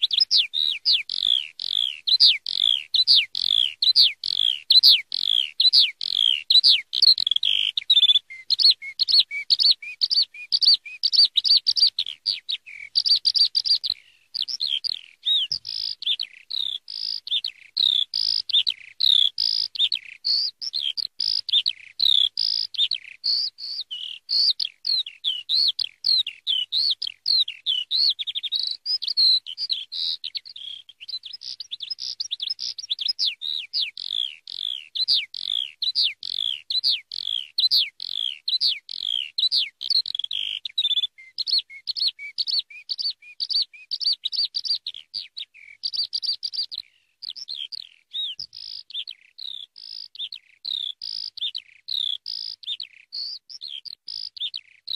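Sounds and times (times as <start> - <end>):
skylark singing: 0.0 - 54.9.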